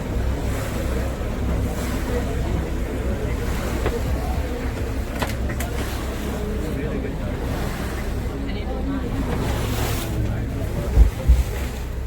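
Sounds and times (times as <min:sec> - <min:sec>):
wind rumbling on microphone: 0:00.0 - 0:08.3, 0:09.0 - 0:12.0
water washing: 0:00.0 - 0:12.0.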